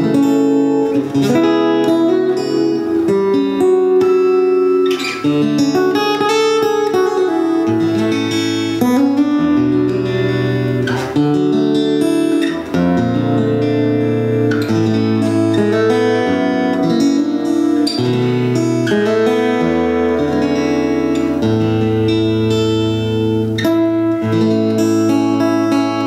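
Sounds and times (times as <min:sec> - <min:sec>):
acoustic guitar picking: 0:00.0 - 0:26.0.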